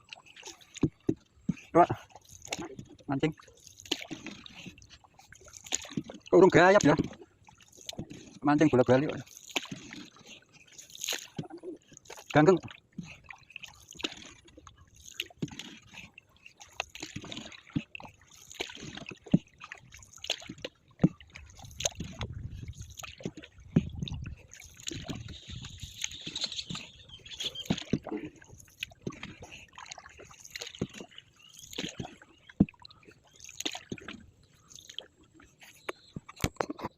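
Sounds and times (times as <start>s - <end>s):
water sloshing and splashing: 0.0s - 36.9s.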